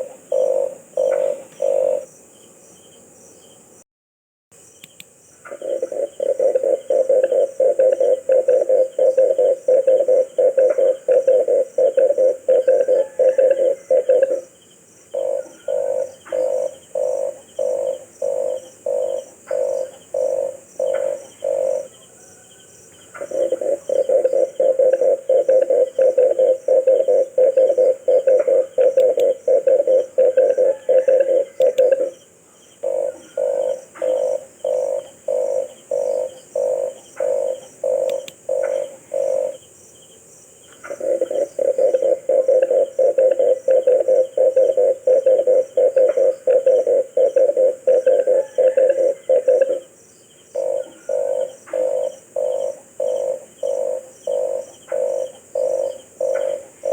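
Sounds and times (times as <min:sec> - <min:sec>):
dove cooing: 0:00.0 - 0:02.1, 0:05.5 - 0:32.2, 0:32.8 - 0:39.6, 0:40.8 - 0:49.9, 0:50.5 - 0:56.9.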